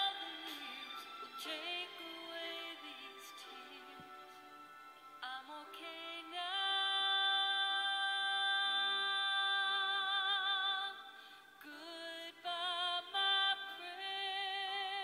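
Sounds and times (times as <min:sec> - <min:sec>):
woman singing: 0:00.0 - 0:04.5, 0:05.2 - 0:15.0
soft musical accompaniment: 0:00.0 - 0:15.0.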